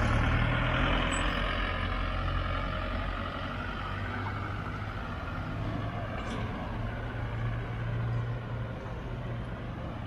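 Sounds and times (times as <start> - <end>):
vehicle driving past: 0.0 - 10.0.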